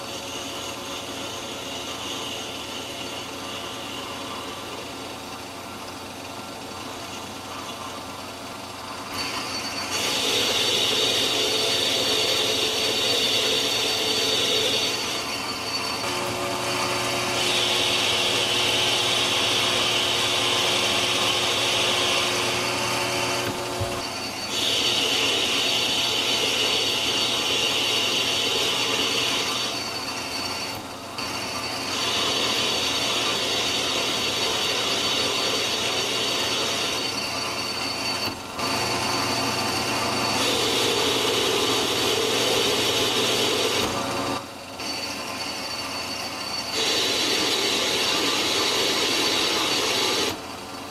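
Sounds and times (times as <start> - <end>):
metal lathe cutting steel: 0.0 - 50.9.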